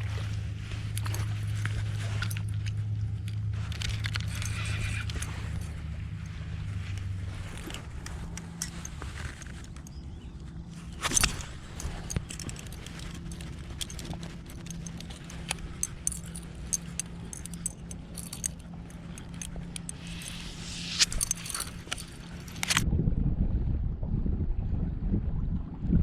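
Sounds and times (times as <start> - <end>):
small clicks and rattles: 0.0 - 22.8
steady low hum: 0.0 - 25.7.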